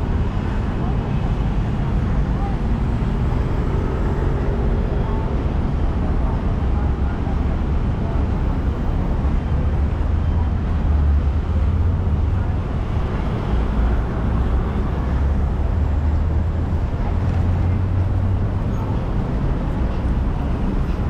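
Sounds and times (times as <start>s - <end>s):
indistinct voices of passers-by: 0.0s - 21.0s
low street rumble: 0.0s - 21.0s.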